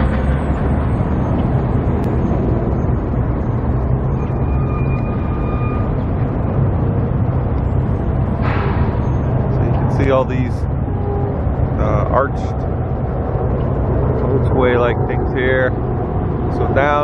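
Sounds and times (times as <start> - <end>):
vehicle and road rumble: 0.0 - 17.0.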